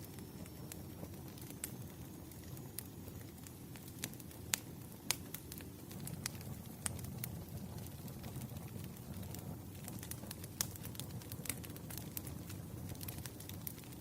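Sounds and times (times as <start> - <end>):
bonfire rumble: 0.0 - 14.0
burning wood crackling and popping: 0.0 - 14.0.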